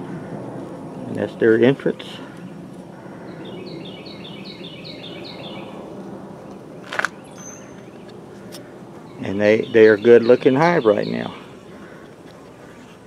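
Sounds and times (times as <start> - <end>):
outdoor background noise: 0.0 - 13.0
songbird chirping: 2.3 - 12.9.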